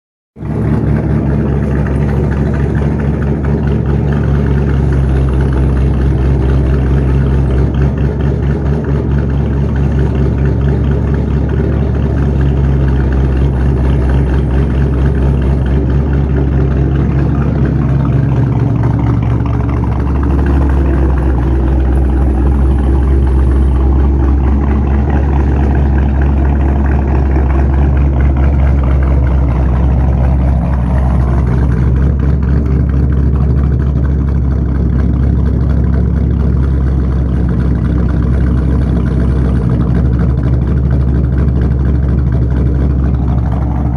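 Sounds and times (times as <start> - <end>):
car engine idling loudly: 0.4 - 43.9.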